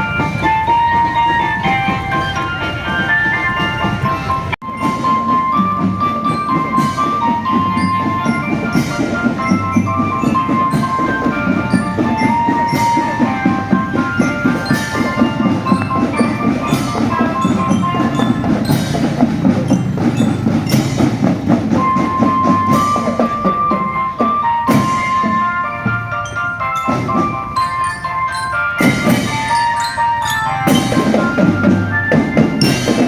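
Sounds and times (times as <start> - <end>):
marching drum band playing: 0.0 - 33.0.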